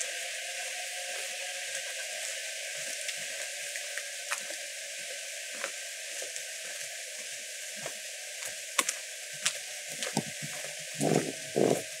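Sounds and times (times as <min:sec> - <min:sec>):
light rain falling: 0:00.0 - 0:11.8.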